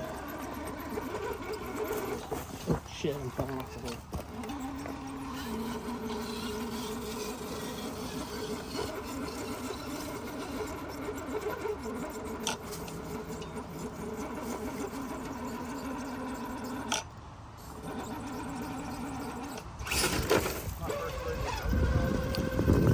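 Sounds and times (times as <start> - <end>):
electric motor whining: 0.0 - 22.9.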